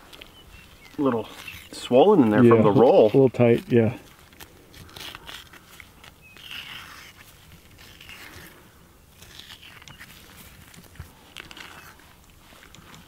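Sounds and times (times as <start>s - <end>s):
knife scraping through hide: 1.0s - 13.0s.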